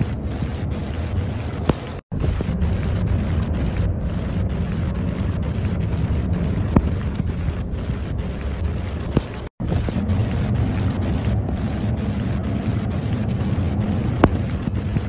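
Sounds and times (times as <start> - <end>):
distorted bass-heavy rumbling: 0.0 - 15.0.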